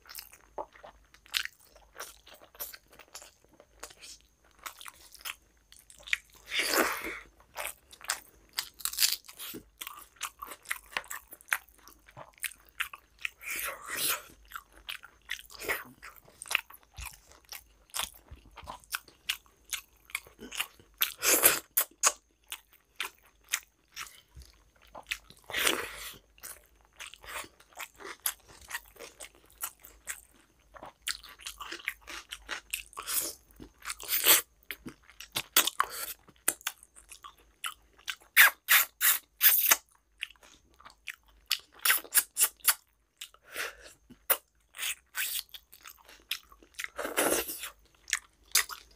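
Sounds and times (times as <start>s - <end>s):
person chewing wet mouth sounds: 0.0s - 48.9s.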